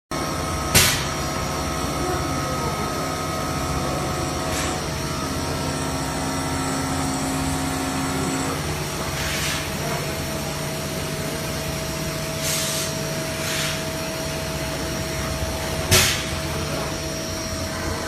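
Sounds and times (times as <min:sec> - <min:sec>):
machine hum with whining tones: 0:00.1 - 0:18.0.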